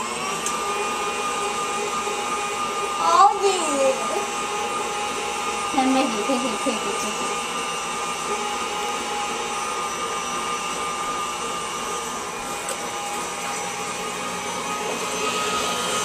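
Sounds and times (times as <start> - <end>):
stand mixer motor running: 0.0 - 16.0.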